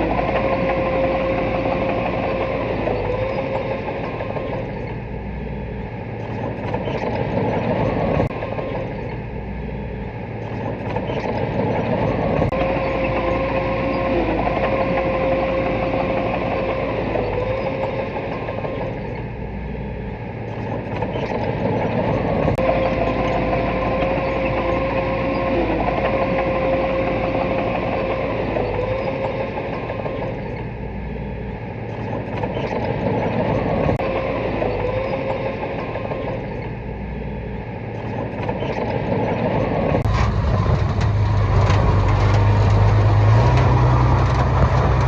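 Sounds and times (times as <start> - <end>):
bulldozer diesel engine: 0.0 - 45.0
steady whine: 0.0 - 45.0.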